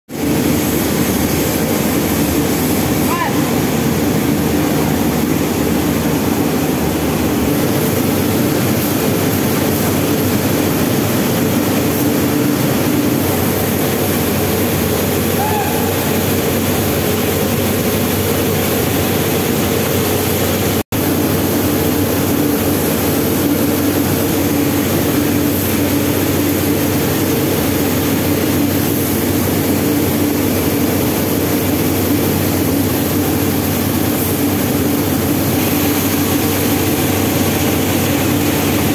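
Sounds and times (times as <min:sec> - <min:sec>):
mill machinery humming: 0:00.1 - 0:38.9.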